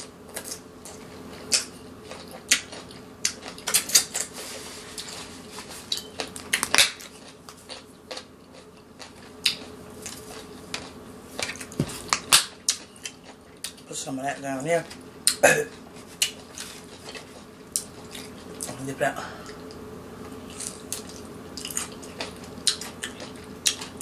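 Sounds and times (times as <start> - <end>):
faint steady hum: 0.0 - 24.0
chewing: 0.3 - 13.9, 14.9 - 18.8, 19.4 - 24.0.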